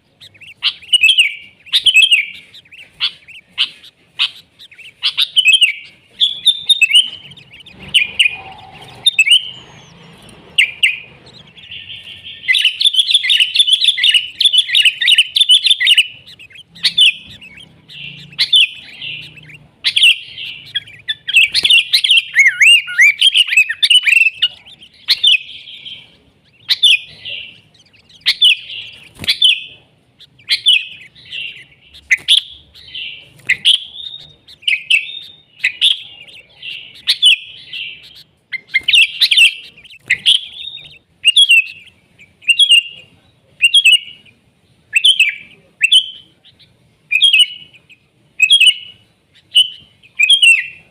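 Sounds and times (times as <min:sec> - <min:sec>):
bird singing chirping phrases: 0:00.0 - 0:50.9.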